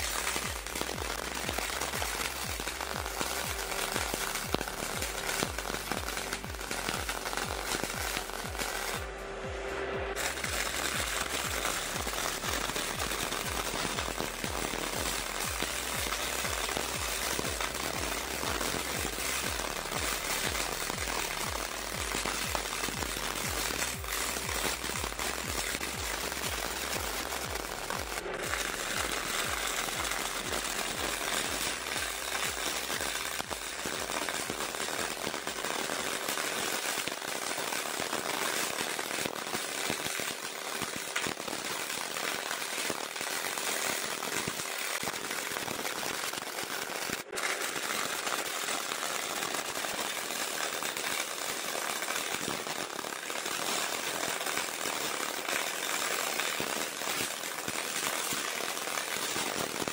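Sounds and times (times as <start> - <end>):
welding arc crackling: 0.0 - 59.9.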